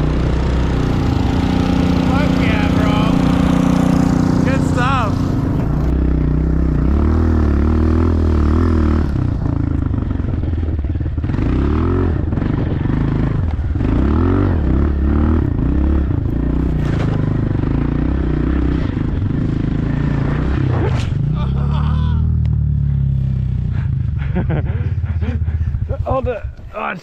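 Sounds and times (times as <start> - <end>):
dirt bike engine revving: 0.0 - 26.6.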